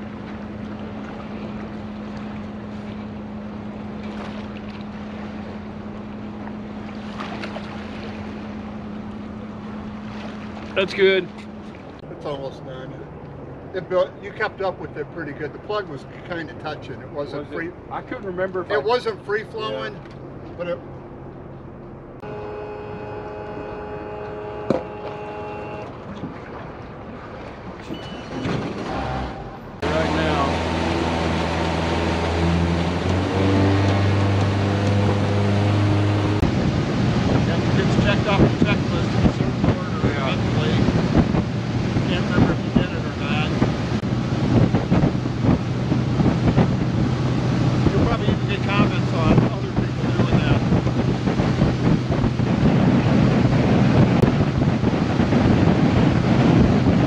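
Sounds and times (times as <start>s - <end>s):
outboard motor running: 0.0s - 13.7s, 15.5s - 57.0s
water rushing: 0.0s - 21.2s, 22.1s - 57.0s.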